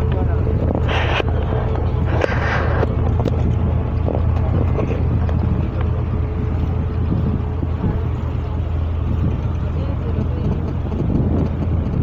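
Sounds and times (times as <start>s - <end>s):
boat engine humming: 0.0s - 12.0s
wind on microphone: 0.0s - 12.0s.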